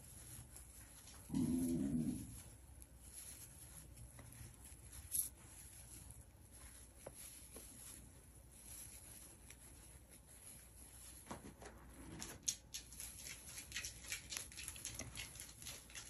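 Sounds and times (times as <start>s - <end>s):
yarn rustling: 0.0s - 16.0s.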